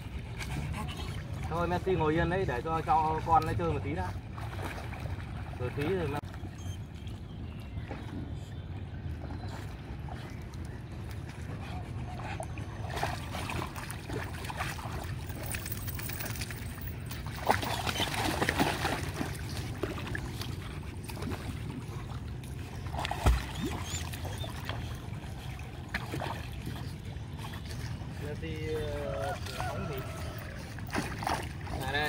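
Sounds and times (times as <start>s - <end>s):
dogs splashing in water: 0.0s - 32.0s.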